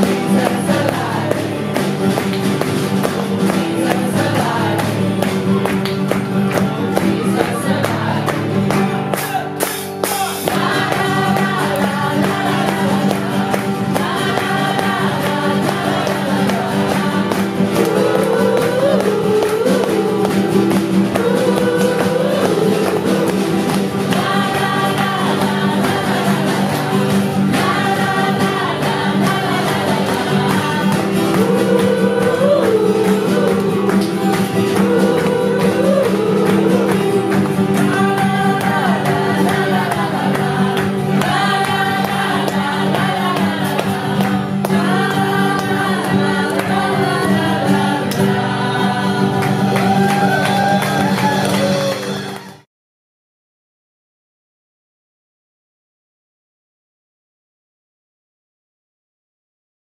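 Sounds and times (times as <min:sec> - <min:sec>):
choir singing gospel song: 0:00.0 - 0:09.1, 0:10.2 - 0:52.2
band accompaniment: 0:00.0 - 0:52.6.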